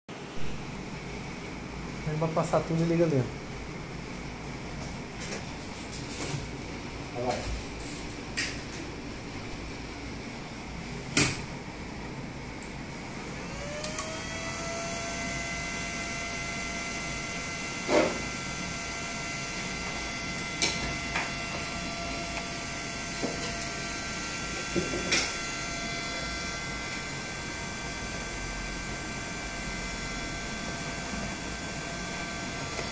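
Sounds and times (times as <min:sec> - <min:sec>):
cooling fan whine: 0:00.1 - 0:32.9.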